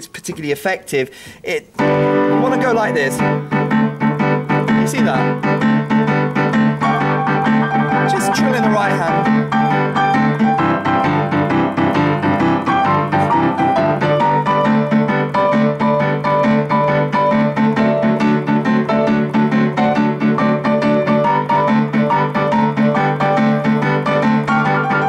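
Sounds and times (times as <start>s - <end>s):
boogie-woogie piano: 1.8s - 25.0s.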